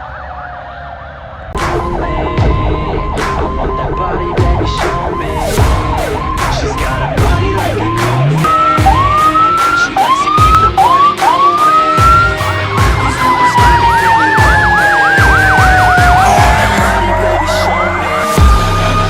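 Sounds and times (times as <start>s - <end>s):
fire engine siren: 0.0s - 19.0s.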